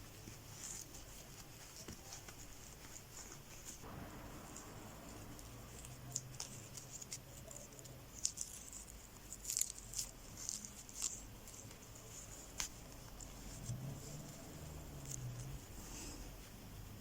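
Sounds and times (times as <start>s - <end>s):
cloth rustling: 0.0s - 17.0s.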